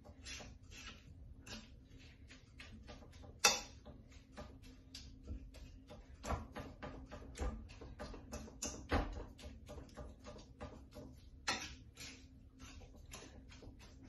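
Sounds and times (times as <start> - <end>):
fork scraping a frying pan: 0.0 - 6.1, 7.7 - 14.0.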